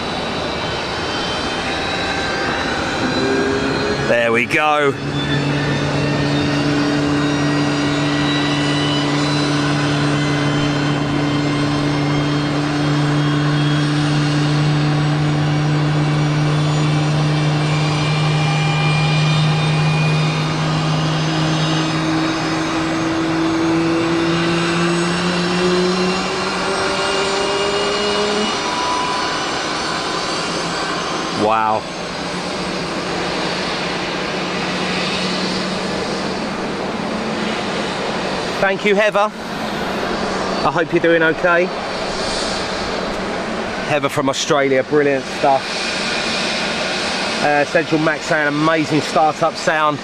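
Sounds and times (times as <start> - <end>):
jet engine spooling up: 0.0 - 50.0.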